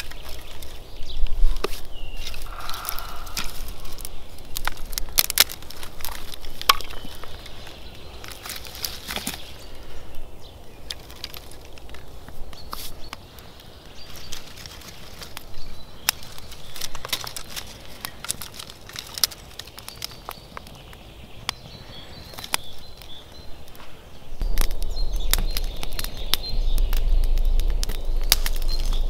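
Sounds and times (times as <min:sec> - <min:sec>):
campfire crackling: 0:00.0 - 0:29.0
dry twigs rustling: 0:00.0 - 0:29.0
fire popping: 0:00.0 - 0:29.0.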